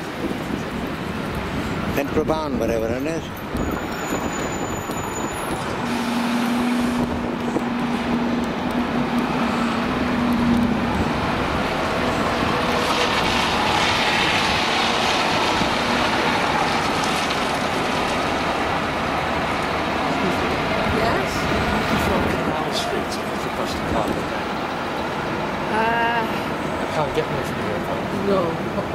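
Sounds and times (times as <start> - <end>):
road noise: 0.0 - 28.9
bus diesel engine running: 3.2 - 28.9.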